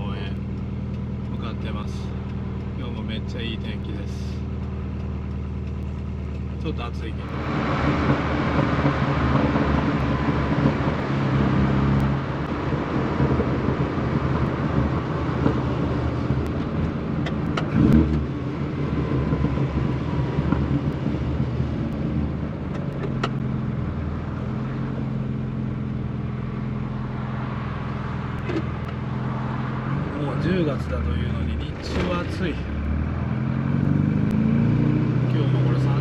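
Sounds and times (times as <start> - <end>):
car engine running: 0.0 - 36.0
road noise: 0.0 - 36.0.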